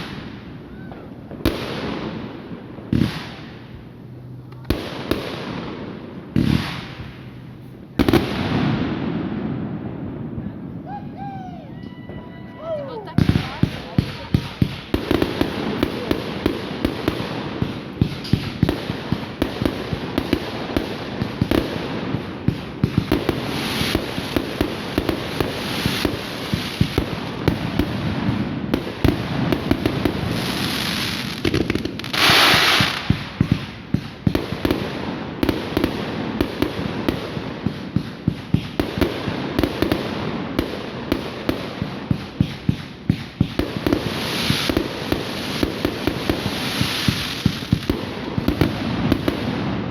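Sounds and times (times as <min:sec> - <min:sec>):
fireworks hissing crackle: 0:00.0 - 0:09.5, 0:12.3 - 0:49.9
fireworks banging: 0:00.0 - 0:49.9.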